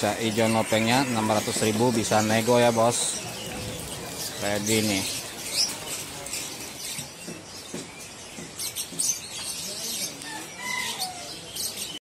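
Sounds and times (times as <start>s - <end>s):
faint background voices: 0.0s - 12.0s
songbirds chirping and whistling: 0.0s - 12.0s.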